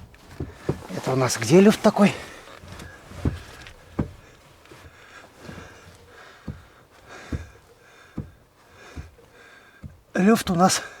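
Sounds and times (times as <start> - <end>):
dull knocks from steering joint: 0.0 - 10.6.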